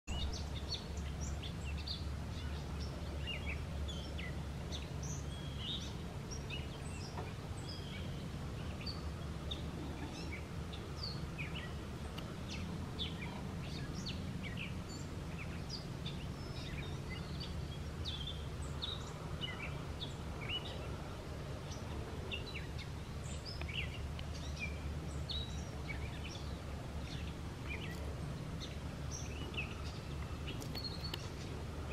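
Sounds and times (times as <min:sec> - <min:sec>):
birds chirping: 0:00.1 - 0:31.9.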